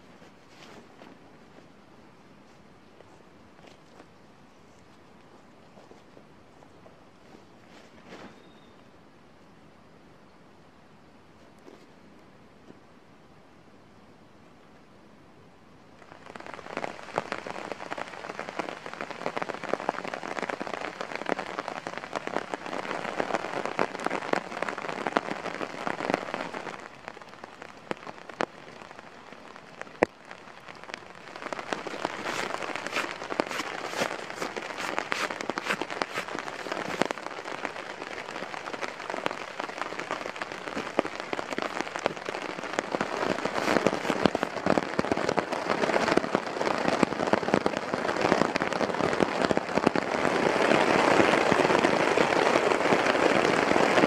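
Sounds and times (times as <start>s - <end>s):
rain pattering on a tarp: 0.0s - 8.4s, 15.8s - 54.0s.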